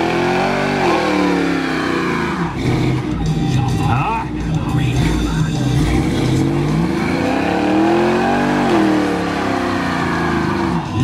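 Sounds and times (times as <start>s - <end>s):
car engine revving hard: 0.0s - 3.5s, 4.8s - 11.0s.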